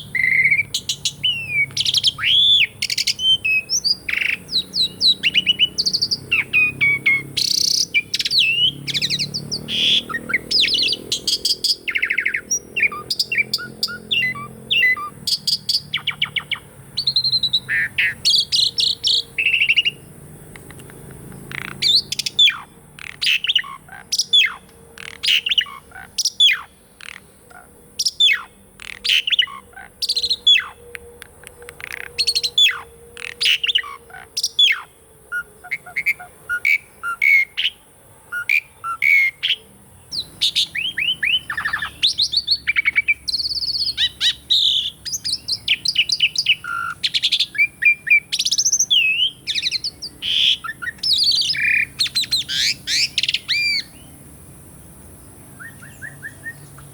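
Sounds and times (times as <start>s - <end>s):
starling singing whistles and chirps: 0.0s - 54.2s, 55.5s - 56.9s.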